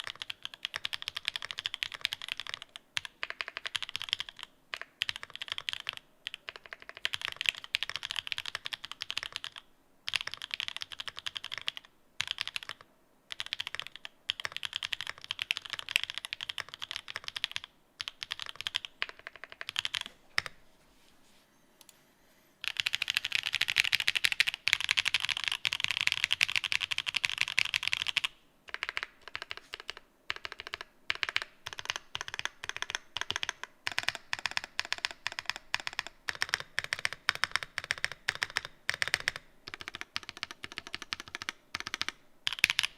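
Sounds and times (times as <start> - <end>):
mechanical keyboard typing: 0.0 - 20.5, 22.6 - 42.9.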